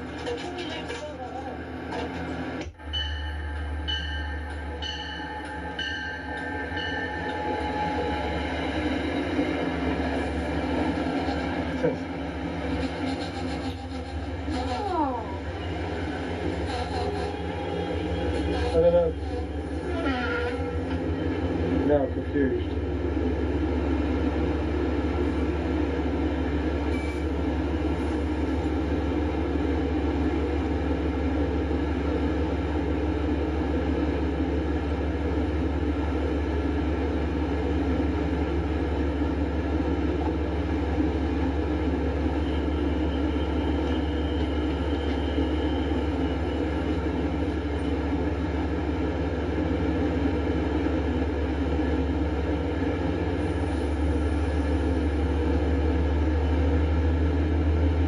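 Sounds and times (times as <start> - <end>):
commuter train low drone: 0.0 - 58.0.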